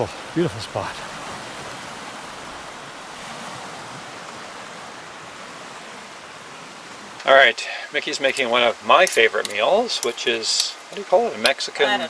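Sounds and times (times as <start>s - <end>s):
waves washing onto stony shore: 0.0s - 12.0s
wind: 0.0s - 12.0s.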